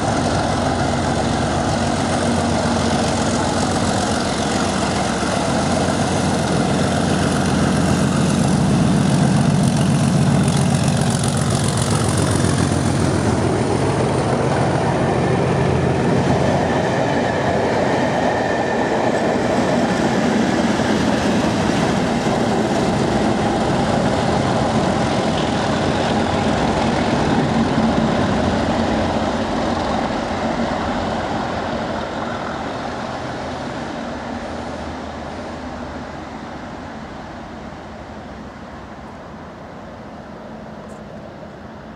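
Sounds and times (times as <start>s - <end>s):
diesel locomotive engines: 0.0s - 41.9s
train wheel noise: 0.0s - 41.9s.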